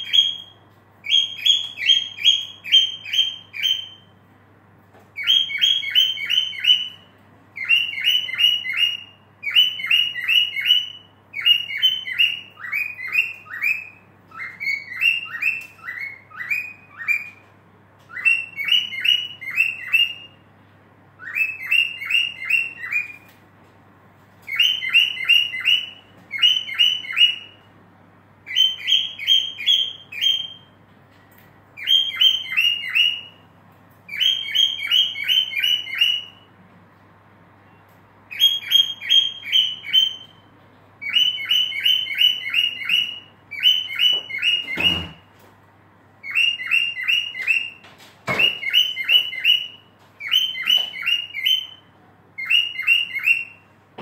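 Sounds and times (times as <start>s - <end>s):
cockatiel whistling: 0.0s - 4.1s, 5.2s - 17.5s, 18.1s - 20.4s, 21.2s - 23.3s, 24.5s - 27.6s, 28.5s - 30.8s, 31.8s - 33.4s, 34.1s - 36.5s, 37.7s - 45.3s, 46.2s - 53.6s.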